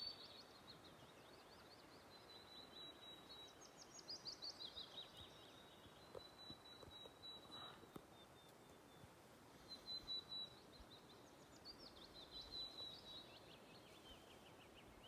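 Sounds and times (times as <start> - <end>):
soft outdoor hiss: 0.0 - 15.0
songbird singing: 0.0 - 15.0.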